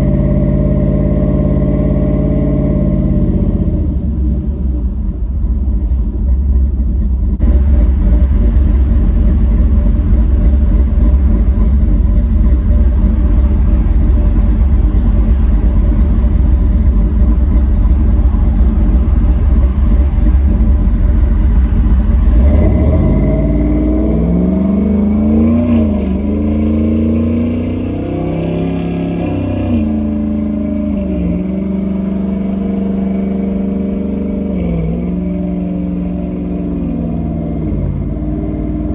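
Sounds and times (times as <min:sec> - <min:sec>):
pickup truck engine revving: 0:00.0 - 0:38.9.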